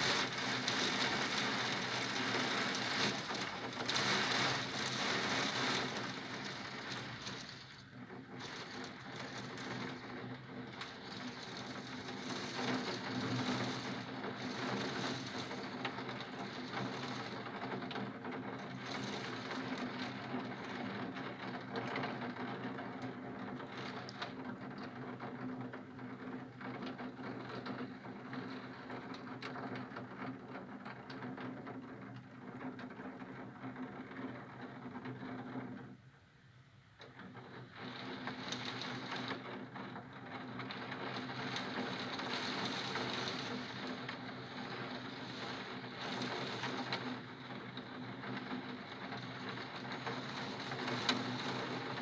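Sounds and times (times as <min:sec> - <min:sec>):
rain pattering on window glass: 0:00.0 - 0:52.0.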